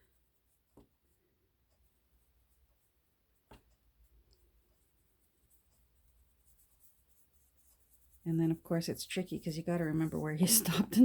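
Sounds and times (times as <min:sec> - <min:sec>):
ink brush scratching paper: 0:00.0 - 0:11.0.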